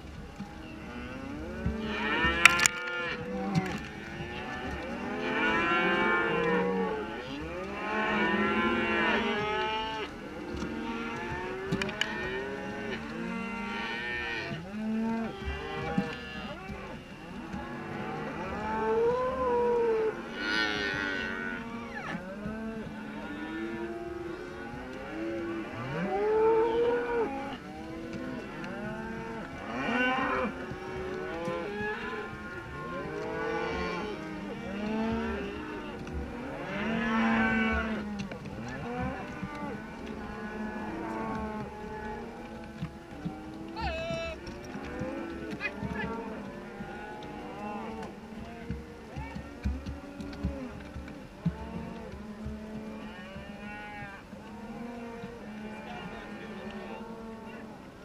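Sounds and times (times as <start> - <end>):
cattle mooing: 0.3 - 57.8.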